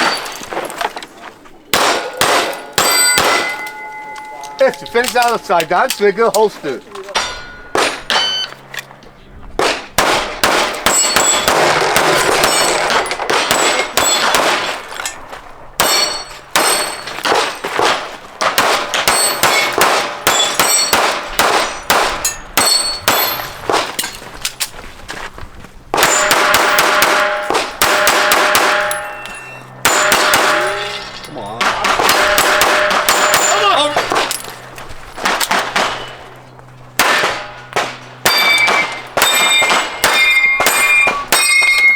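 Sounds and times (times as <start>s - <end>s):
steel targets clanging: 0.0s - 9.1s, 9.7s - 18.0s, 18.7s - 24.8s, 26.0s - 41.9s.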